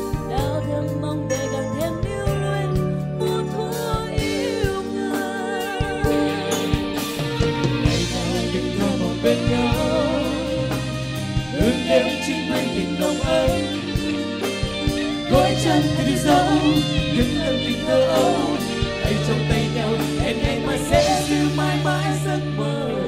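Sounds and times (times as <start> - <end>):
man and woman singing duet: 0.2 - 23.0
band playing guitar drums keyboard: 2.1 - 22.6.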